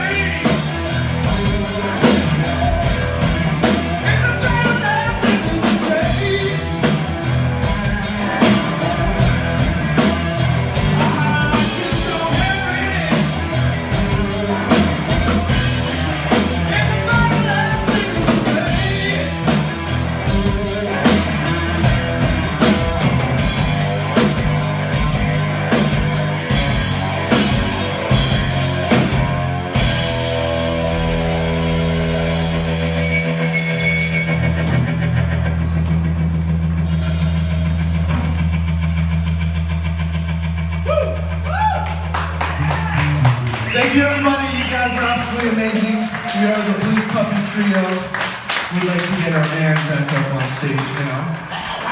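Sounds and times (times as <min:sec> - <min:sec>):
electric guitar: 0:00.0 - 0:48.7
drum kit: 0:00.0 - 0:51.9
electric bass: 0:00.0 - 0:51.9.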